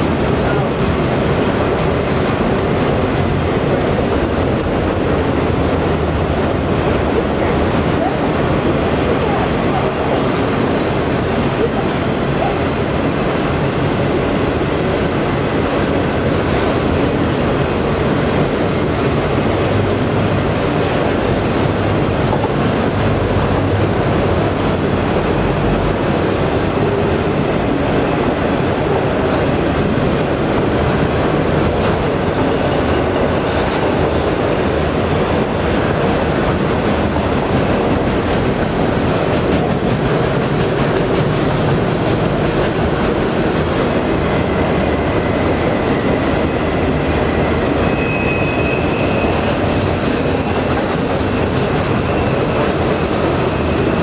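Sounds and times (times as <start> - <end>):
steel train wheels on rails: 0.0 - 54.0.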